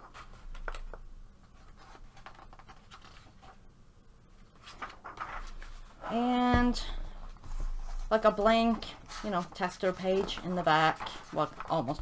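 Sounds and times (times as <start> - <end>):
paper rustling: 0.0 - 3.6, 4.4 - 6.1, 7.3 - 12.0.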